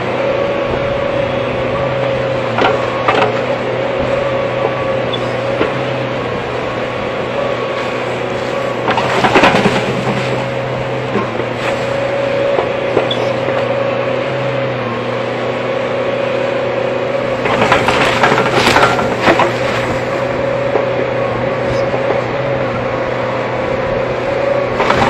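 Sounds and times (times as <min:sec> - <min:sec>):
excavator running: 0:00.0 - 0:25.0.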